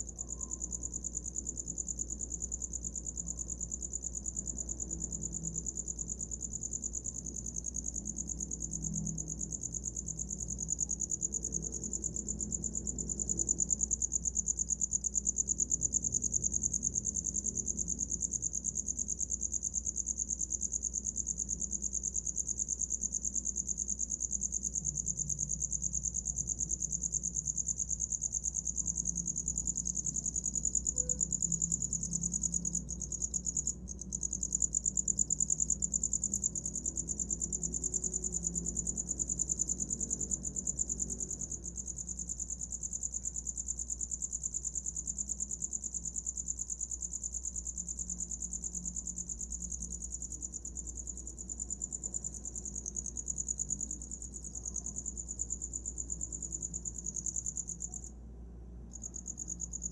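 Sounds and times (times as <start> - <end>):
cricket chirping trill: 0.0 - 59.9.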